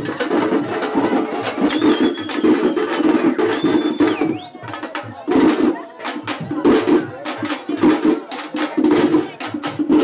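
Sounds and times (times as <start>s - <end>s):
frame drums beaten fast: 0.0s - 10.0s.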